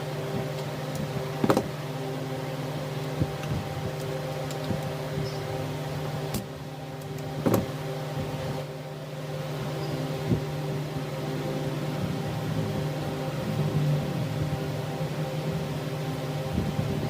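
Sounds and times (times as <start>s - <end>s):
small electric motor humming: 0.0s - 17.0s.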